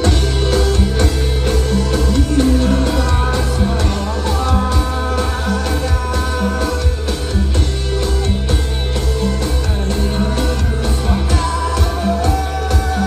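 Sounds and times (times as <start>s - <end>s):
drums: 0.0s - 13.0s
electric guitars: 0.0s - 13.0s
person singing: 0.0s - 13.0s.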